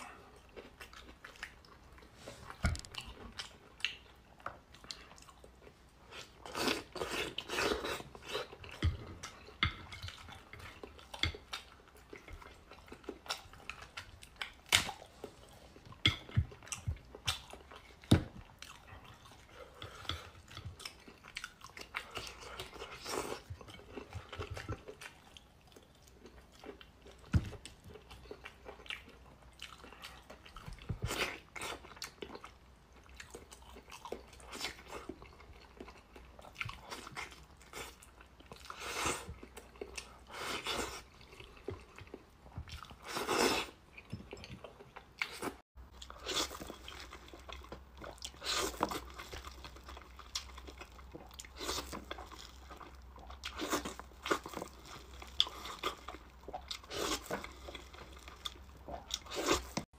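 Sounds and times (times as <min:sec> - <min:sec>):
chewing and biting meat: 0:00.4 - 0:59.9.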